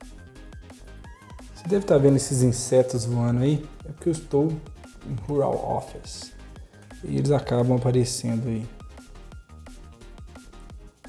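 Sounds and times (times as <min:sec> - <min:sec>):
music with electronic drums: 0:00.0 - 0:11.0.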